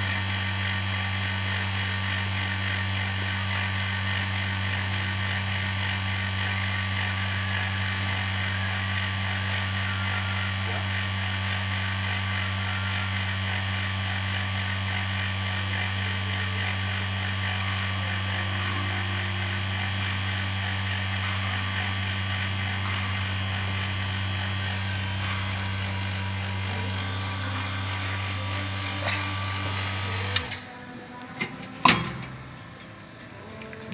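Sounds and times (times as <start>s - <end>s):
vacuum pump humming and hissing: 0.0s - 33.9s.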